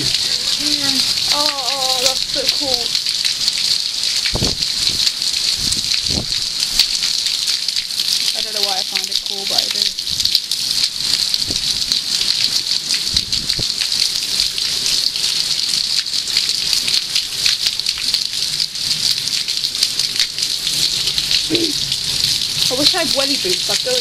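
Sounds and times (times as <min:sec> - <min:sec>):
heavy rain on wet paving: 0:00.0 - 0:24.0.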